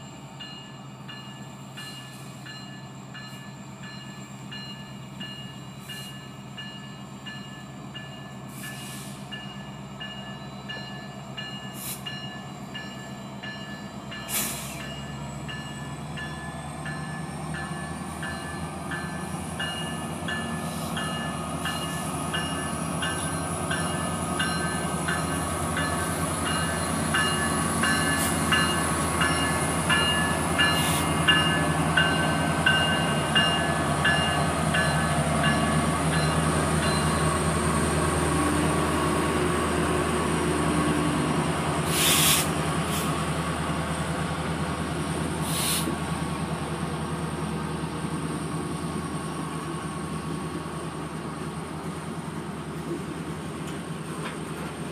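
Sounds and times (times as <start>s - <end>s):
diesel locomotive engines: 0.0s - 54.9s.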